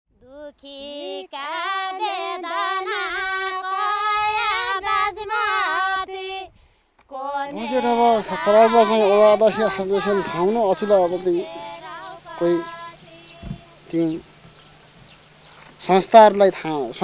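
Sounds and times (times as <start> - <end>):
woman singing unaccompanied: 0.1 - 14.2.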